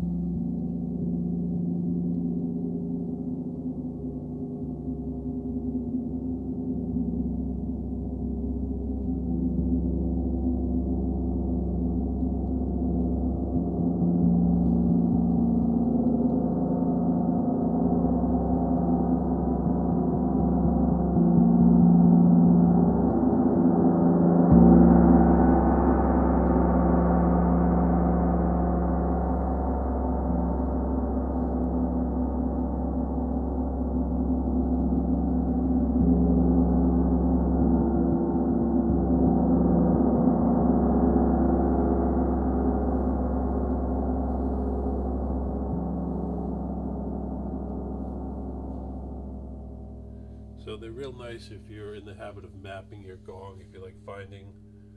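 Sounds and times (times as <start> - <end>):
gong played with soft mallets: 0.0 - 50.7.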